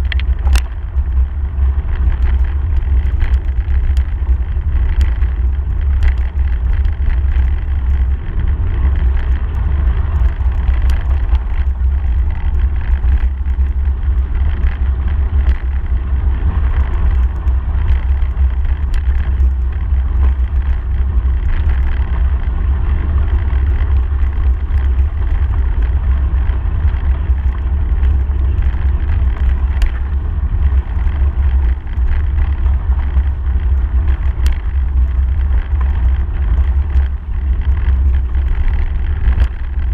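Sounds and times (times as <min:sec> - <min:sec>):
bicycle tyres rolling on gravel: 0:00.0 - 0:39.9
small clicks and rattles: 0:00.0 - 0:39.9
wind buffeting microphone: 0:00.0 - 0:39.9.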